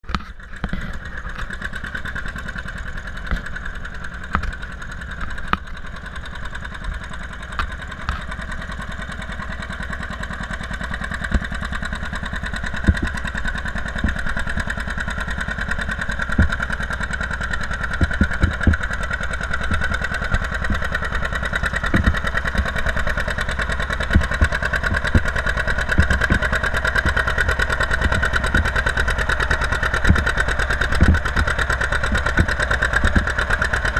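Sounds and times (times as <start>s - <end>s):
sharp engine knocks: 0.0s - 33.9s
tractor diesel engine running: 0.0s - 33.9s.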